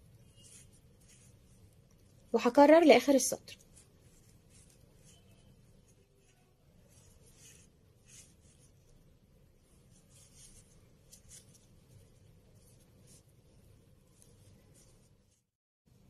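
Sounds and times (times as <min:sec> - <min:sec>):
crochet hook rustling yarn: 0:00.0 - 0:15.6.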